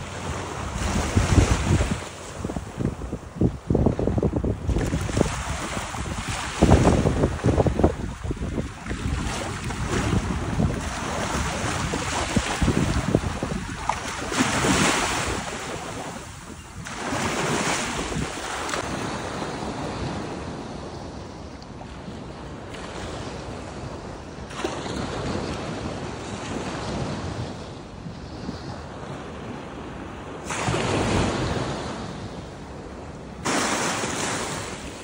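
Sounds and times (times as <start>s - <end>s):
small waves washing on shore: 0.0s - 35.0s
wind rumbling on microphone: 0.0s - 35.0s.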